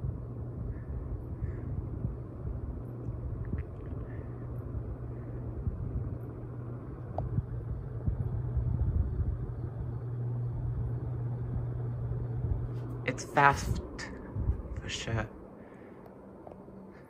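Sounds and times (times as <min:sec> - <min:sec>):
wind buffeting microphone: 0:00.0 - 0:13.0, 0:13.6 - 0:15.3
air rush from fan blades: 0:00.0 - 0:17.0
ceiling fan motor hum: 0:00.0 - 0:17.0.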